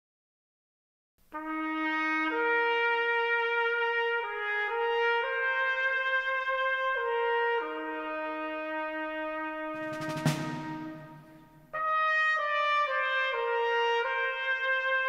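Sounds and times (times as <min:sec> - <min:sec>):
trumpets holding long notes: 0:01.3 - 0:15.0.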